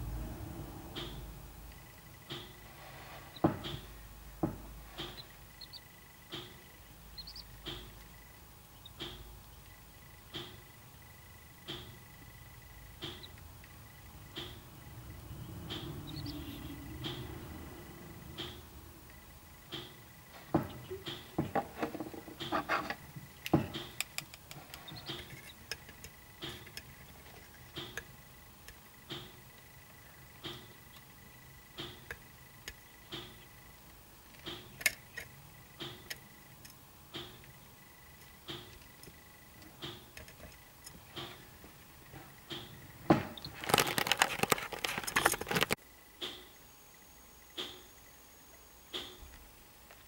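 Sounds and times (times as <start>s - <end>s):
bird chicks peeping: 1.0s - 36.5s, 37.1s - 49.4s.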